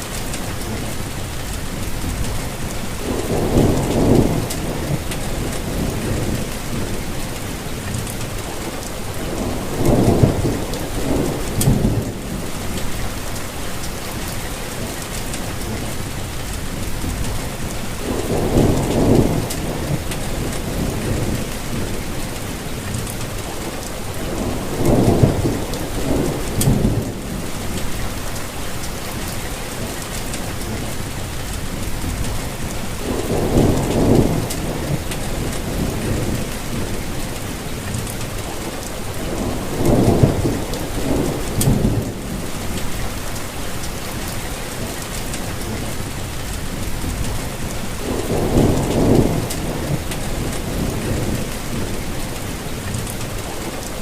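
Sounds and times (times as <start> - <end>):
steady rainfall hissing: 0.0 - 54.0.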